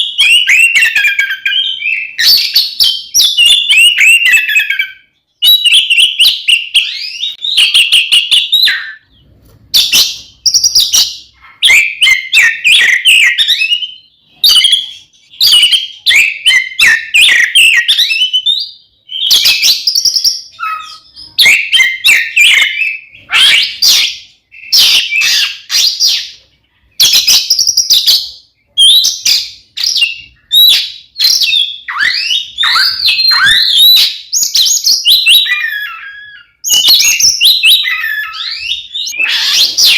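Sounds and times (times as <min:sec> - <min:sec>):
bird singing whistled phrases: 0:00.0 - 0:09.2, 0:09.8 - 0:26.4, 0:27.0 - 0:39.9.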